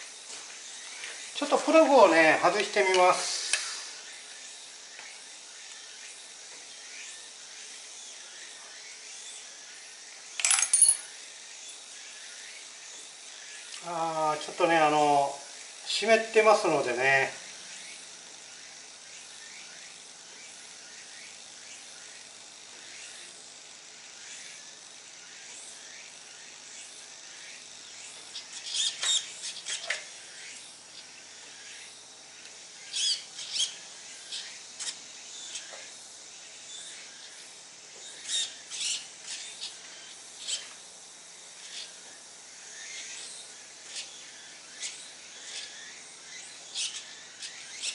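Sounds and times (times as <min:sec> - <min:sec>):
faint insect drone: 0:00.0 - 0:47.9.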